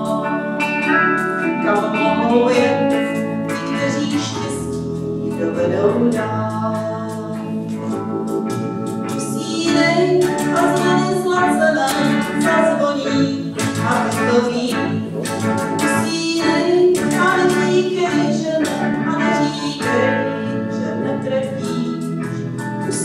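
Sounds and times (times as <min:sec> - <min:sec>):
live band playing slow song: 0:00.0 - 0:23.0
sustained organ chords: 0:00.0 - 0:23.0.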